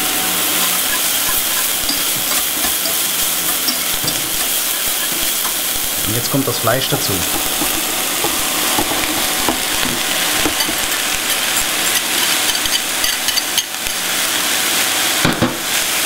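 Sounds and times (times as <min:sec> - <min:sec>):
minced beef sizzling in oil: 0:00.0 - 0:16.0.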